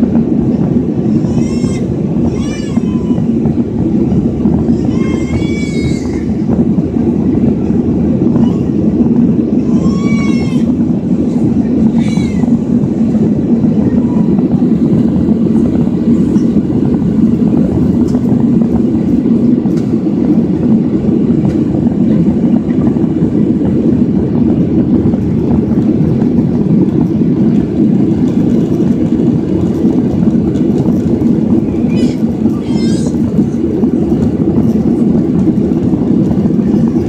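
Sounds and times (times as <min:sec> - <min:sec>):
jet engine cabin rumble: 0:00.0 - 0:37.0.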